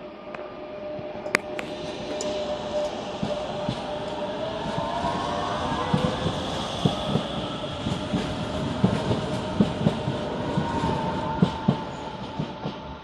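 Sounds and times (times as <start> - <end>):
electric train whine: 0.0 - 13.0.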